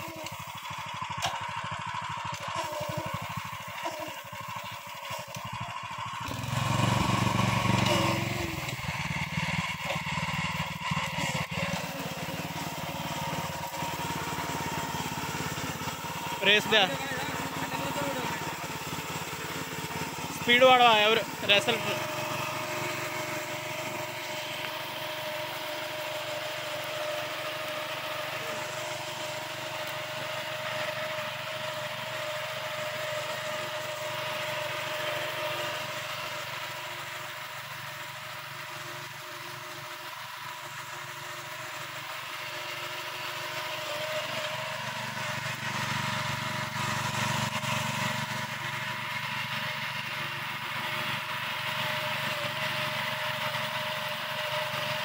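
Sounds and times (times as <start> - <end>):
small engine running steadily: 0.0 - 55.0.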